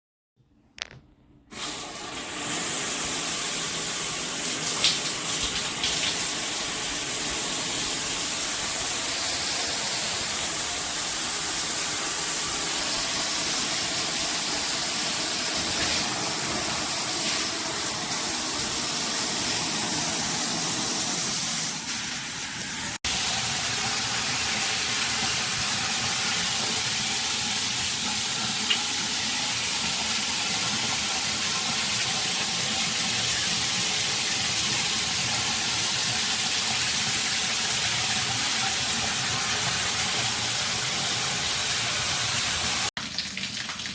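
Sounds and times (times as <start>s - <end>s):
shower water spraying: 1.5s - 42.9s.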